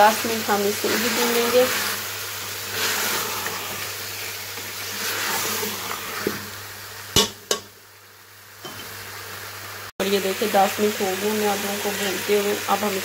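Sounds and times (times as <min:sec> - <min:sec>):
meat and potatoes sizzling in oil: 0:00.0 - 0:13.0.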